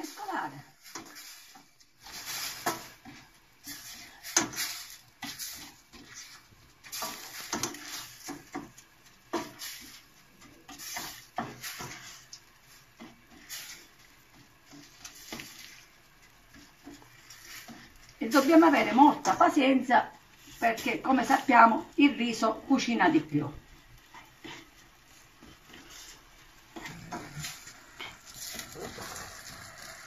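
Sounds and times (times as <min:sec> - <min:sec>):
spoon scraping metal pan: 0:00.0 - 0:22.2, 0:24.7 - 0:30.0.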